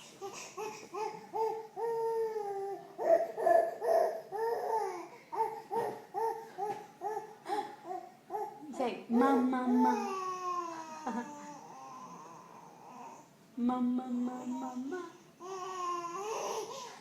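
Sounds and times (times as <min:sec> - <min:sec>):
baby babbling: 0:00.2 - 0:08.6, 0:09.2 - 0:13.2, 0:14.4 - 0:16.9.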